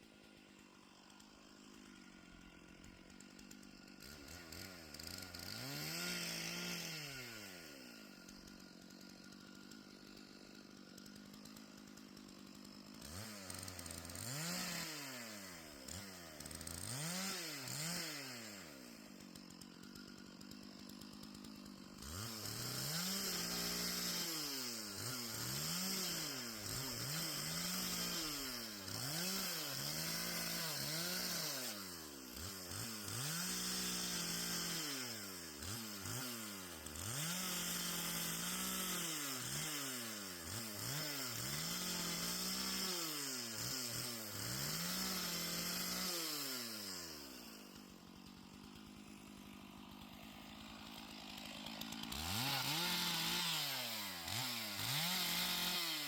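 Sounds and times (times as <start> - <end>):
chainsaw idling: 0.0 - 56.0
chainsaw revving: 0.0 - 56.0.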